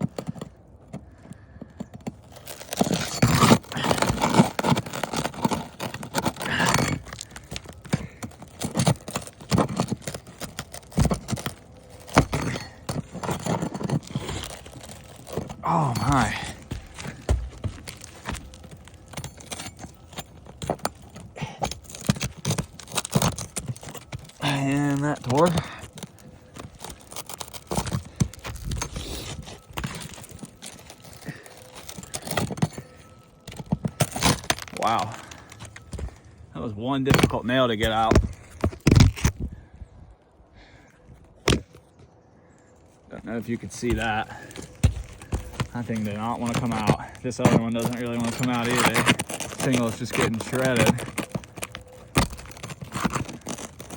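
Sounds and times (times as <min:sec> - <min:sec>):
pry bar scraping shingles: 0:00.0 - 0:39.7, 0:40.6 - 0:42.1, 0:43.0 - 0:53.9.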